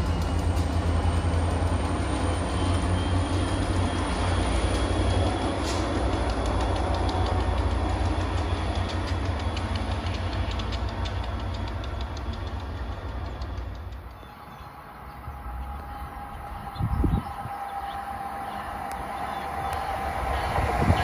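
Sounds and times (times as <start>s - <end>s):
diesel locomotive engine rumble: 0.0s - 21.0s
train wheels clicking on rails: 0.0s - 21.0s.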